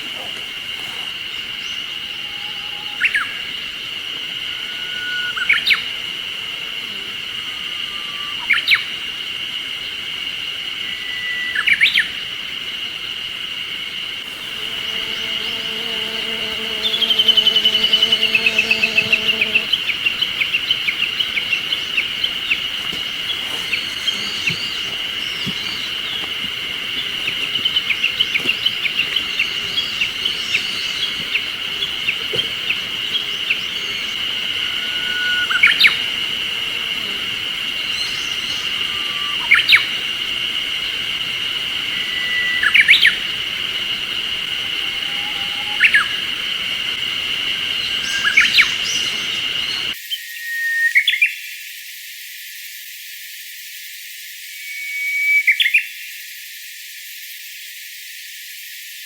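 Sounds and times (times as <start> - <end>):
songbirds calling: 0.0 - 50.0.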